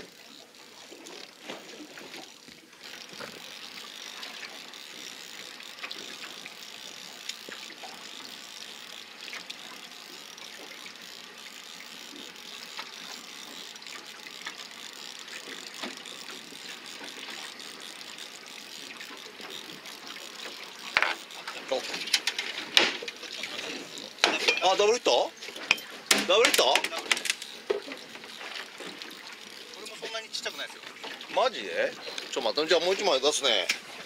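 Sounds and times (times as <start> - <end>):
fishing reel winding: 0.0 - 34.0.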